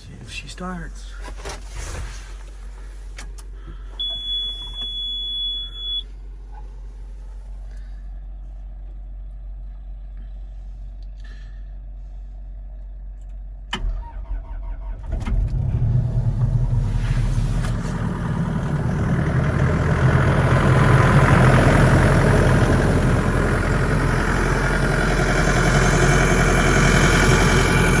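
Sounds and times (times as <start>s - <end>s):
diesel engine cranking and running: 2.3s - 28.0s.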